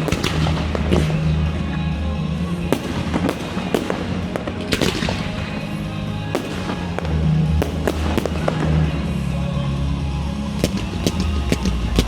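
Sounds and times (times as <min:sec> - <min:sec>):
fireworks banging and crackling: 0:00.0 - 0:09.3, 0:10.5 - 0:12.0
loud music with heavy bass: 0:00.0 - 0:12.0.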